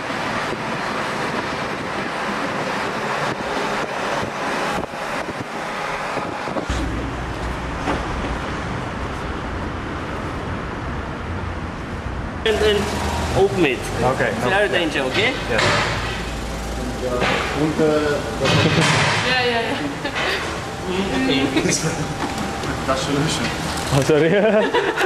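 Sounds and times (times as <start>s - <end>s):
road and wind noise in vehicle: 0.0s - 25.0s.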